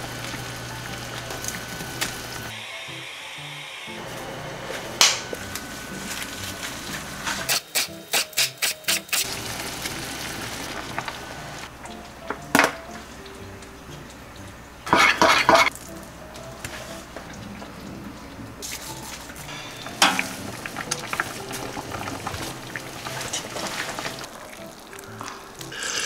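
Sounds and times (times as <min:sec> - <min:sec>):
background music: 0:02.4 - 0:26.0.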